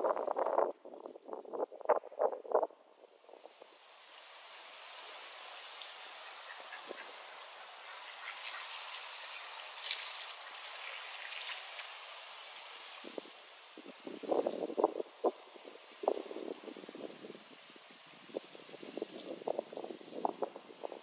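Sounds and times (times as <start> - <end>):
freezing rain hissing: 2.4 - 21.0.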